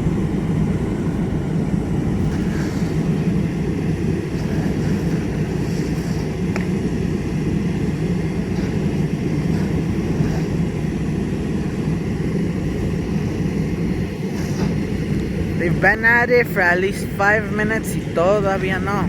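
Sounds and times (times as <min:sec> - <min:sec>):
large engine droning: 0:00.0 - 0:19.0.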